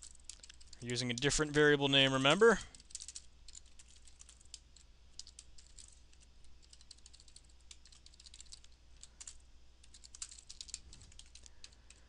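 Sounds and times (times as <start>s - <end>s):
typing on keyboard: 0.0s - 1.5s, 2.7s - 12.0s.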